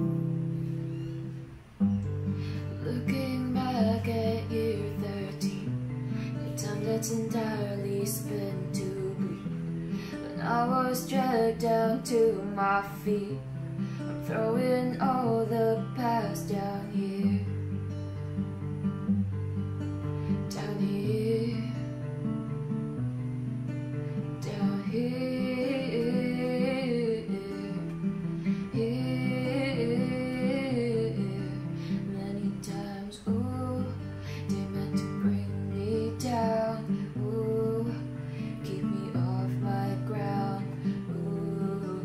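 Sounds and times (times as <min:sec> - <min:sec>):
young woman singing: 0:00.0 - 0:18.0, 0:20.2 - 0:22.5, 0:24.2 - 0:42.0
acoustic guitar strumming: 0:00.0 - 0:42.0.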